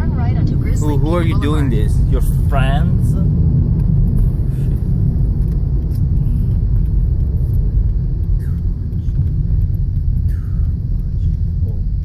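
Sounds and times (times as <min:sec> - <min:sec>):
car engine: 0:00.0 - 0:12.0
tyre road noise: 0:00.0 - 0:12.0.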